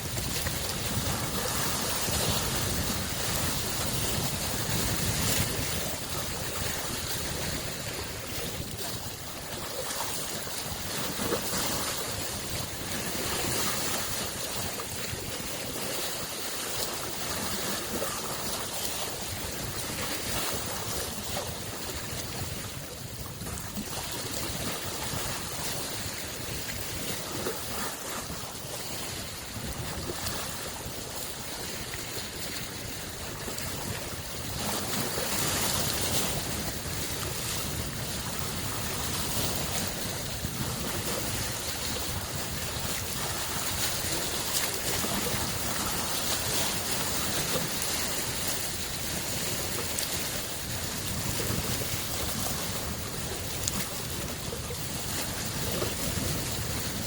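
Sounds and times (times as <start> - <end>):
lake waves lapping shore: 0.0 - 57.0.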